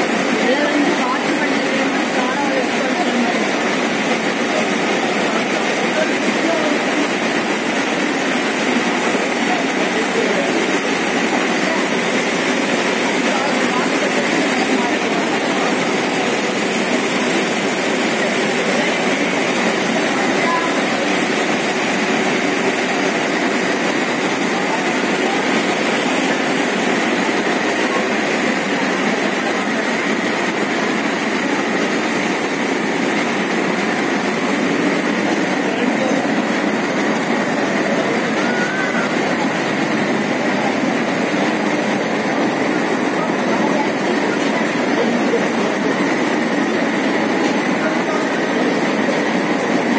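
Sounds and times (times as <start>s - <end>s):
machinery running: 0.0s - 49.9s.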